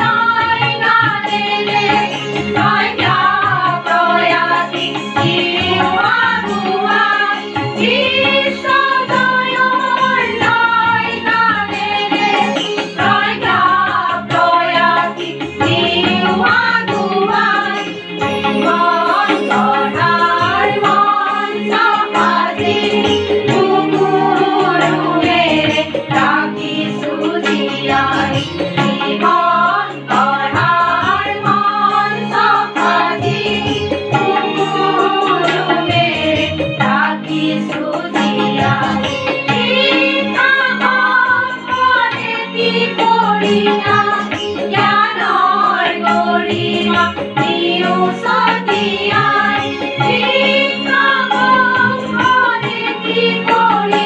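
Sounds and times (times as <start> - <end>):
sitar: 0.0 - 54.0
tabla: 0.0 - 54.0
women singing together: 0.0 - 54.0.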